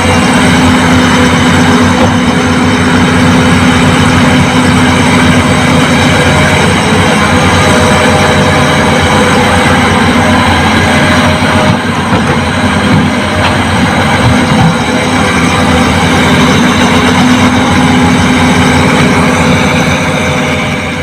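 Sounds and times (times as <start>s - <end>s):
diesel engine running loudly: 0.0s - 21.0s.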